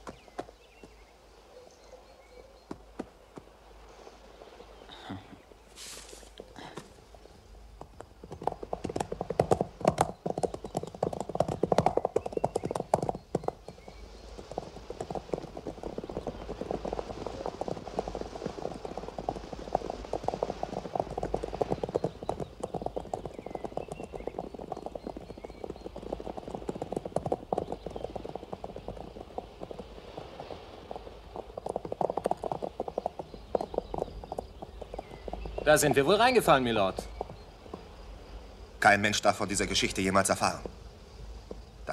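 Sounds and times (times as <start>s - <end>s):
horses galloping: 0.0s - 1.1s, 4.8s - 41.9s.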